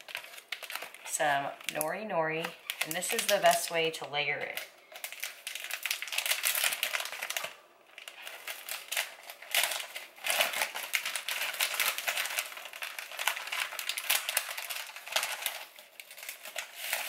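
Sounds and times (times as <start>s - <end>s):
seaweed packet crinkling: 0.0s - 17.0s.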